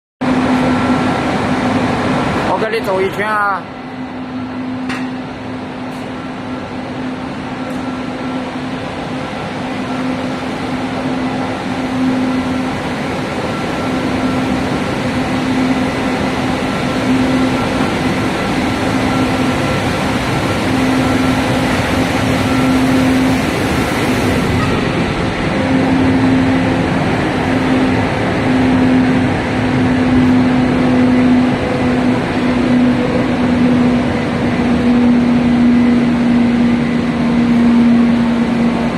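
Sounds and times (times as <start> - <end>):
fans and blowers whirring: 0.2 - 38.9.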